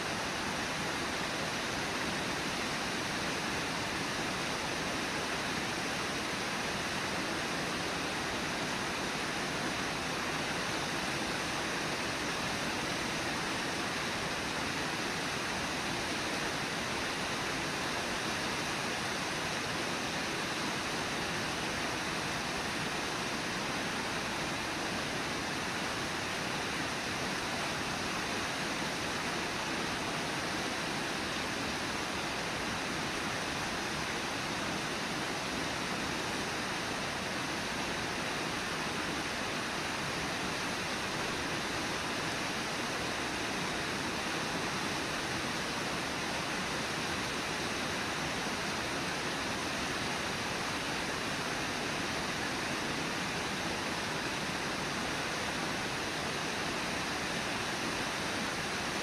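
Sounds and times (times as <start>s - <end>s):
river rushing over riffles: 0.0s - 59.0s.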